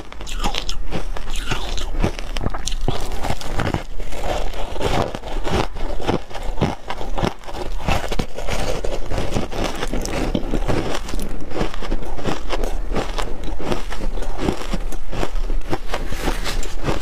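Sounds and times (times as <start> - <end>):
crisp crunching of shaved ice: 0.0 - 17.0.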